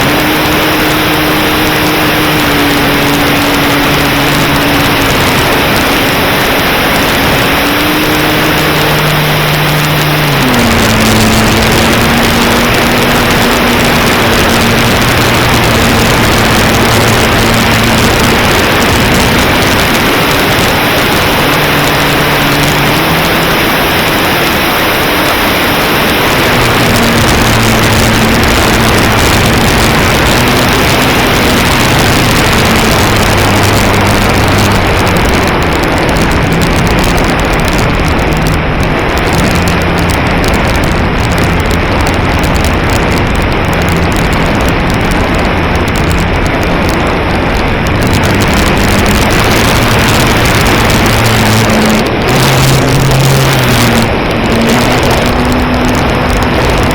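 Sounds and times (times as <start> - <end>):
propeller engine in flight: 0.0 - 56.9
wind noise: 0.0 - 56.9.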